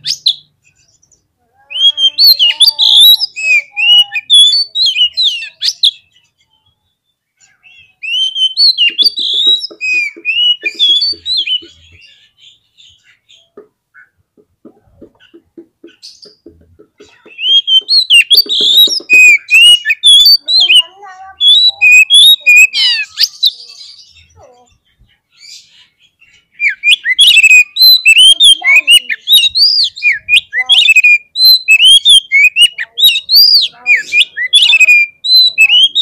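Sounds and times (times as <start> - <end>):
songbird whistles and chattering: 0.0 - 14.2, 14.8 - 36.0.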